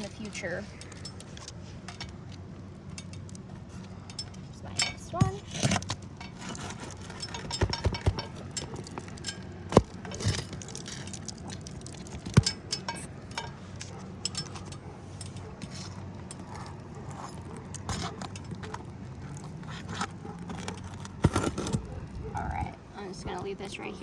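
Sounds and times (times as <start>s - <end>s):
metal tool clinking and scraping: 0.0s - 22.5s.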